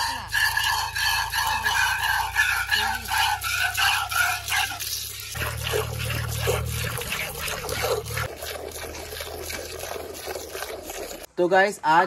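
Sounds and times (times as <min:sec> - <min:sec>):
milk squirting into metal pail: 0:00.3 - 0:11.3.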